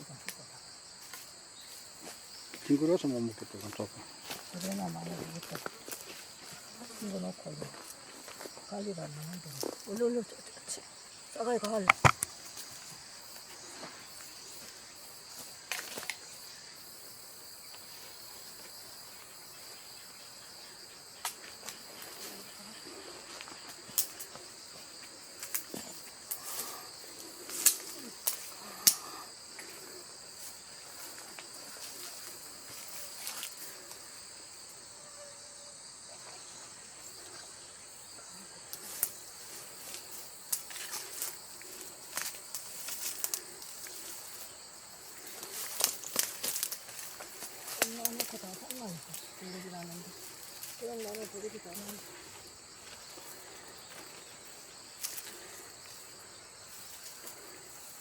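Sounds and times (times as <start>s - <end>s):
crickets and insects trilling: 0.0s - 58.0s.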